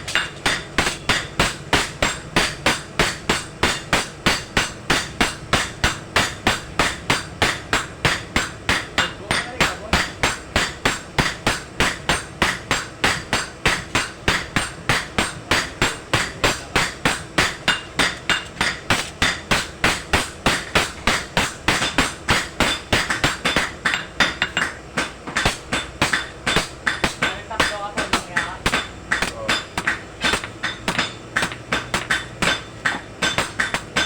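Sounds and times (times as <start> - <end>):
hammer blows on metal anvil: 0.0 - 34.0.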